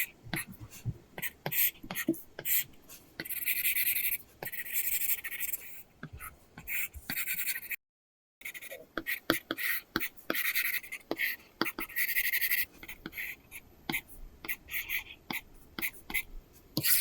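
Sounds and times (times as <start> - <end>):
pencil sketching on screen: 0.0 - 7.8, 8.4 - 17.0.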